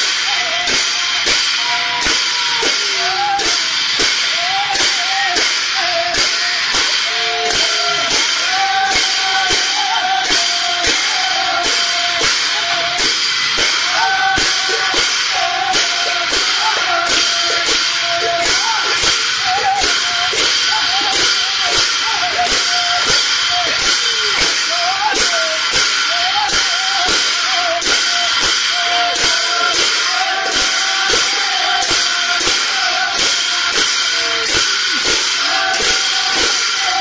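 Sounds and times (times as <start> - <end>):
fast drum and cymbal beat: 0.0 - 37.0.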